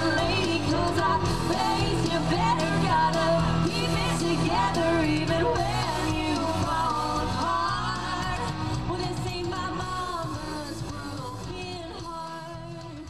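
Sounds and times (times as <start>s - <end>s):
bass guitar: 0.0s - 13.0s
drums: 0.0s - 13.0s
electric guitar: 0.0s - 13.0s
woman singing into a microphone: 0.0s - 13.0s.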